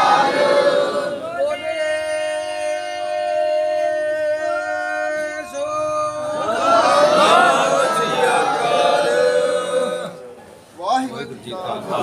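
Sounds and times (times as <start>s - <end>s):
congregation singing a chant: 0.0s - 10.3s.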